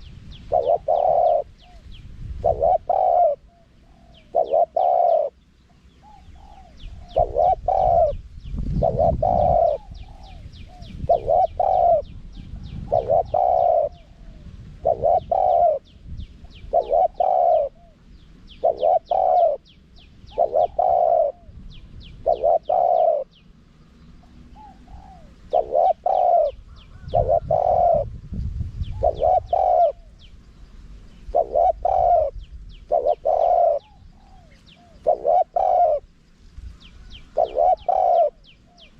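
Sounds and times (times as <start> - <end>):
dove cooing: 0.0 - 23.4, 24.2 - 28.2, 28.8 - 30.3, 31.1 - 36.2, 37.0 - 38.9
small birds chirping: 0.0 - 38.9.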